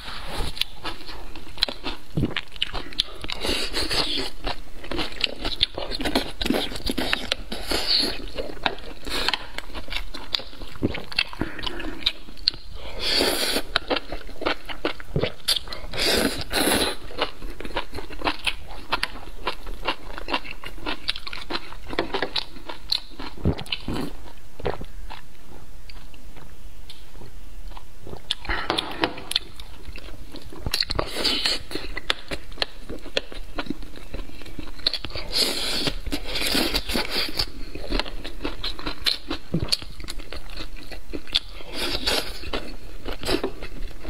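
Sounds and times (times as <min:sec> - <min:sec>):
person chewing: 0:00.0 - 0:44.0.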